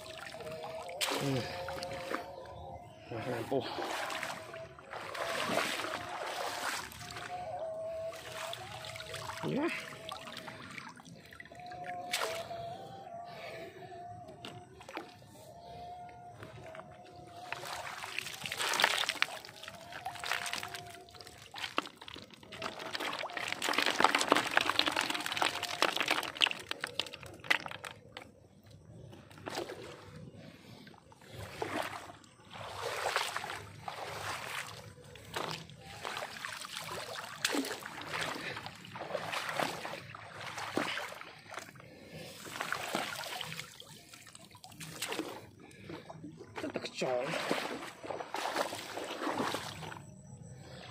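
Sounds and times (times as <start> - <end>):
water sloshing and splashing: 0.0 - 50.9.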